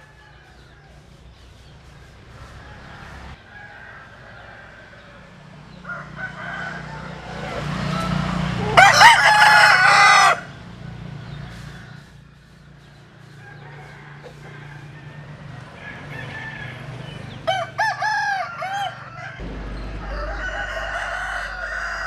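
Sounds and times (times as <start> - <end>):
rooster crowing: 0.0 - 1.2, 2.3 - 10.6, 13.3 - 22.0.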